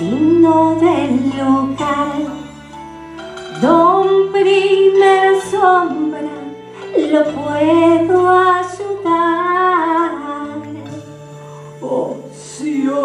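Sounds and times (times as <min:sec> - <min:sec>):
woman singing: 0:00.0 - 0:02.8, 0:03.6 - 0:11.2, 0:11.8 - 0:13.0
instrumental accompaniment: 0:00.0 - 0:13.0.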